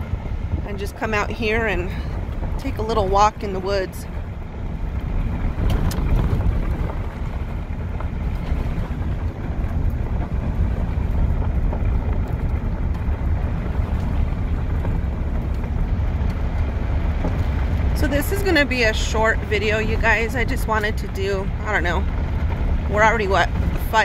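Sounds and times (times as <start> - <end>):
car road noise: 0.0 - 24.0
wind buffeting microphone: 0.0 - 24.0.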